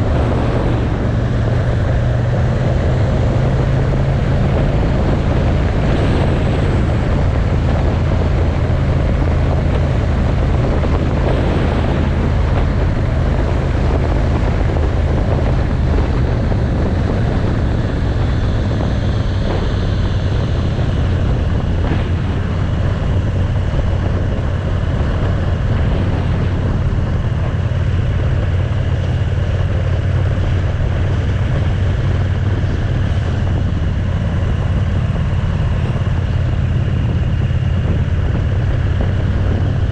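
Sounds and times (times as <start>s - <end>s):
motorcycle engine drone: 0.0s - 39.9s
wind noise on microphone: 0.0s - 39.9s.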